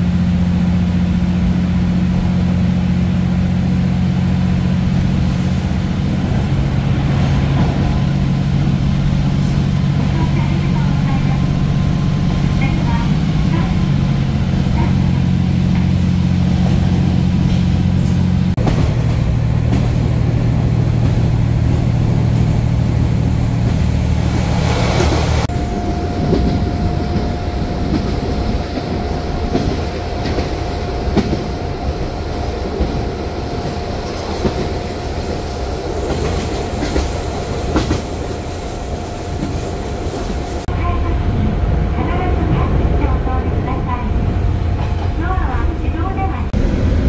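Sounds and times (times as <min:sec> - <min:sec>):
diesel train engine drone: 0:00.0 - 0:47.0
train whine: 0:00.0 - 0:47.0.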